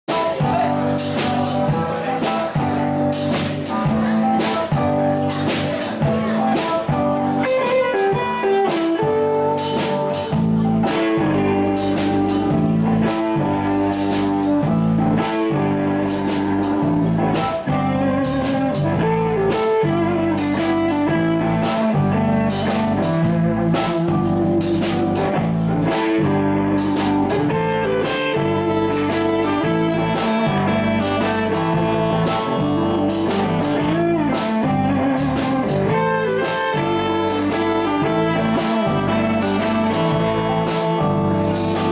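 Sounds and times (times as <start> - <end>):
drum kit beat: 0.0 - 41.9
electric guitars: 0.1 - 41.9
deep bass: 0.4 - 41.9.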